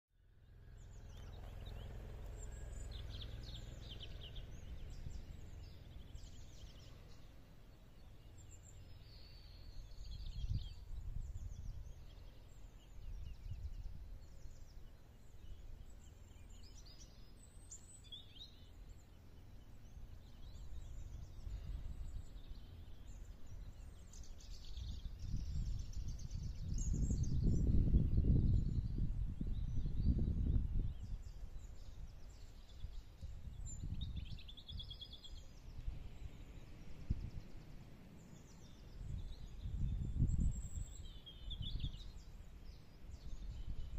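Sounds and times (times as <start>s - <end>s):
small birds chirping: 0.2s - 43.9s
wind rumble on microphone: 0.3s - 43.9s.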